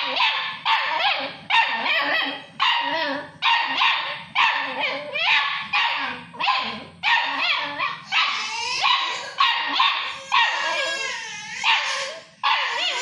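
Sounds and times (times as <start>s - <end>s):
puppy barking: 0.0s - 13.0s.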